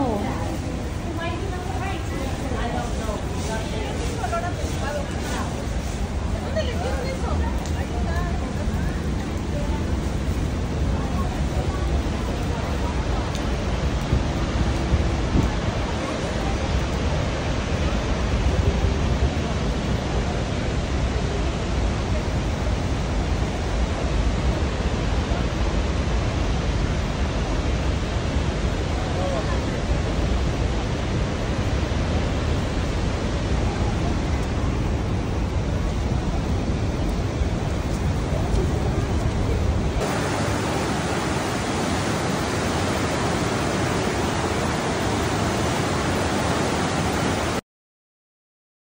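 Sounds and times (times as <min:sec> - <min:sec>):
waterfall rushing and rumbling: 0:00.0 - 0:47.6.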